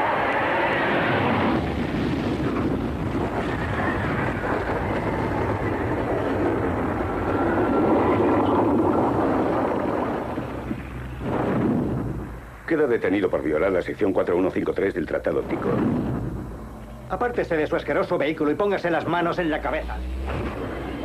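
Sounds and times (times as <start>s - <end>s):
flying saucer engine roar: 0.0s - 11.3s, 14.6s - 21.0s.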